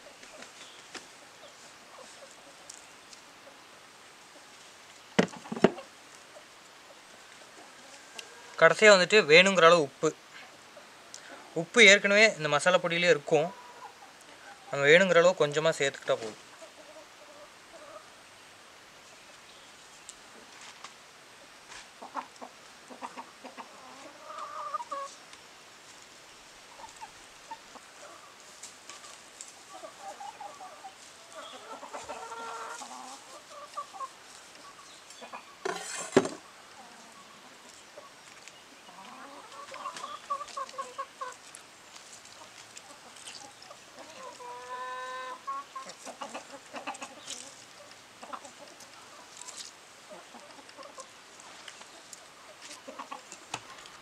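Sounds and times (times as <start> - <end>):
chickens clucking: 0.0 - 9.6, 10.3 - 18.3, 21.4 - 25.3, 26.5 - 54.0.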